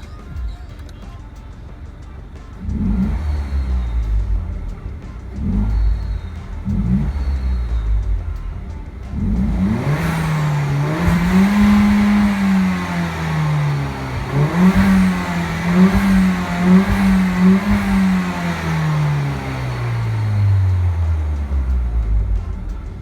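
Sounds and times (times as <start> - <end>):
car engine revving under throttle: 0.9 - 23.0.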